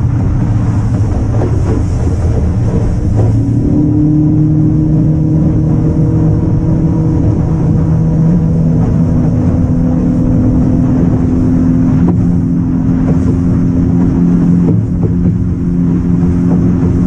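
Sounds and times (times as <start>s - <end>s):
boat engine droning: 0.0s - 17.0s
water rushing: 0.0s - 17.0s
wind: 0.0s - 17.0s.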